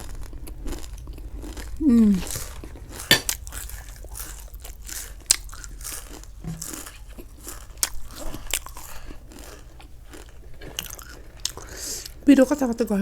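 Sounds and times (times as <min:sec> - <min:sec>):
crunchy snacks being chewed: 0:00.0 - 0:12.3.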